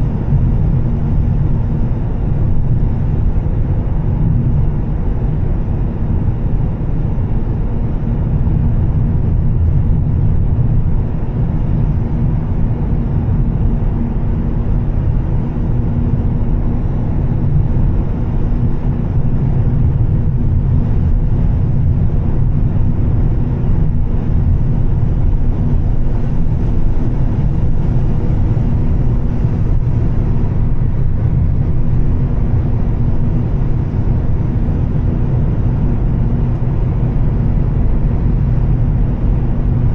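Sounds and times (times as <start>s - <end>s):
car engine cruising drone: 0.0s - 39.9s
road noise: 0.0s - 39.9s.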